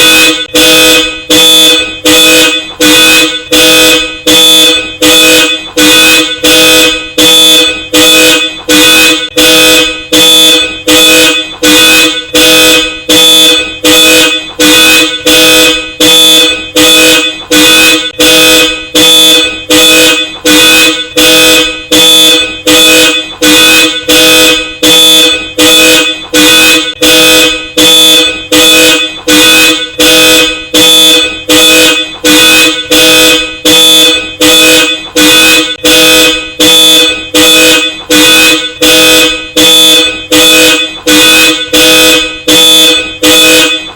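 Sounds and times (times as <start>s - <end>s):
car alarm two-tone horn honks: 0.0s - 43.9s.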